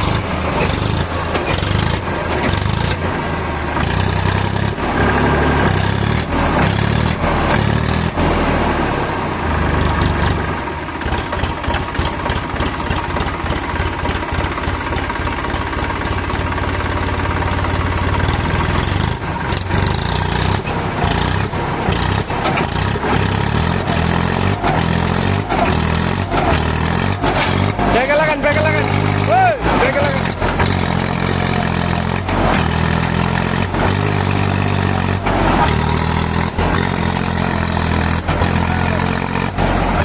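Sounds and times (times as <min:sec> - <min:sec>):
heavy diesel engine throbbing: 0:00.0 - 0:40.0.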